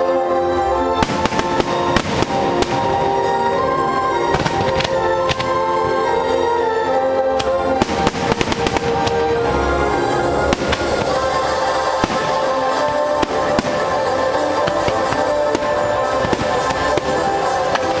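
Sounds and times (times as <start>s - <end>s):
loud show music: 0.0s - 18.0s
fireworks bursting: 0.9s - 6.0s, 7.4s - 18.0s.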